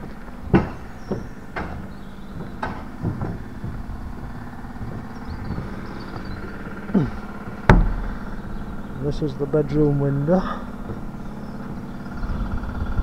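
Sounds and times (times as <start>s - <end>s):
footsteps on wooden boards: 0.0s - 8.7s, 9.7s - 13.0s
steady low hum: 0.0s - 13.0s.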